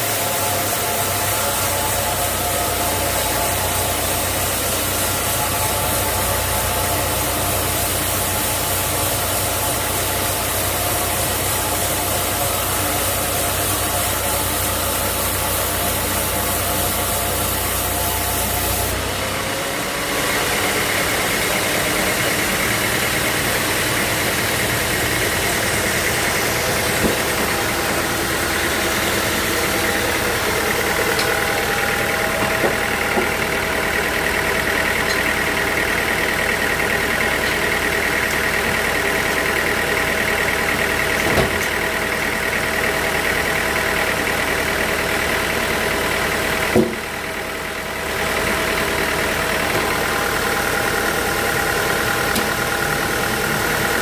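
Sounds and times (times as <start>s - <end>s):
high machine whine: 0.0s - 54.0s
sawmill machinery humming: 0.0s - 54.0s.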